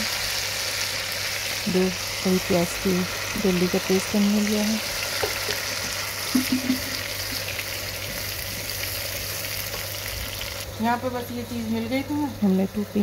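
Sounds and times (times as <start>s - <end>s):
paste sizzling in hot oil: 0.0s - 10.8s.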